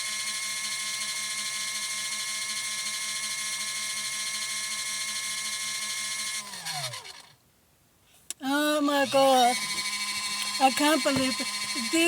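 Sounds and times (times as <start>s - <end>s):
spin dryer motor whining: 0.0s - 7.3s, 8.8s - 12.0s.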